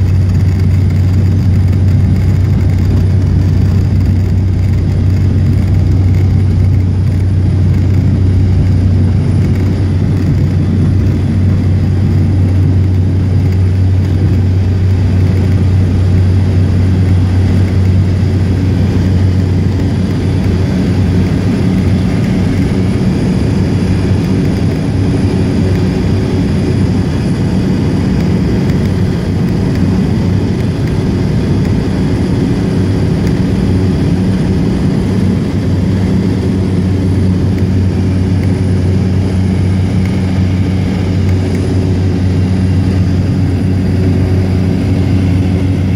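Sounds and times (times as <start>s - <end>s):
turboprop engine drone in cabin: 0.0s - 45.9s.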